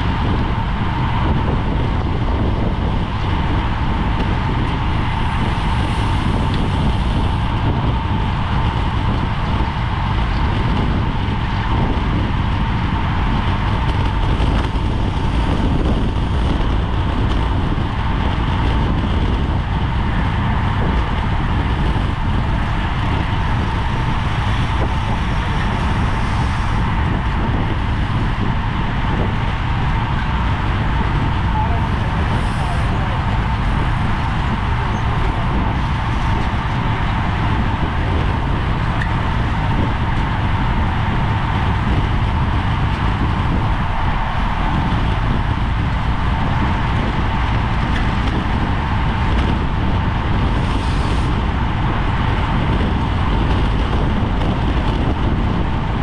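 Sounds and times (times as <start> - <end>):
thin steady whine: 0.0 - 56.0
wind buffeting microphone: 0.0 - 56.0.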